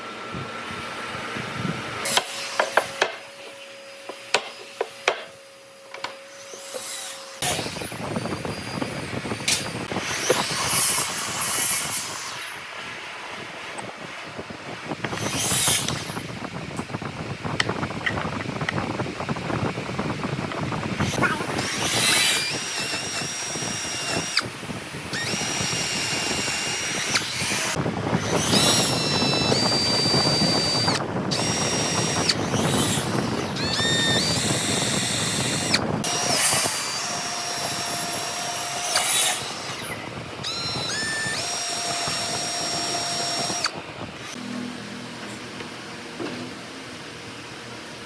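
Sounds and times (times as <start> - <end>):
power drill motor whine: 0.0 - 18.9, 19.5 - 47.6
drill bit working wood: 1.6 - 13.9, 14.9 - 16.8, 20.8 - 45.9.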